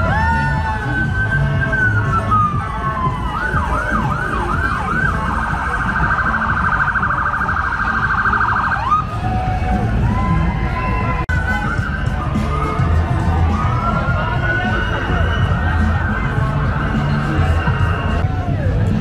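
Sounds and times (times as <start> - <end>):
emergency vehicle siren: 0.0 - 19.0.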